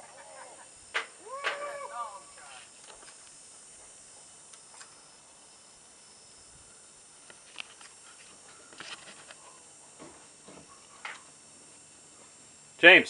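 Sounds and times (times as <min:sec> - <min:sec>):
high insect hiss: 0:00.0 - 0:13.0.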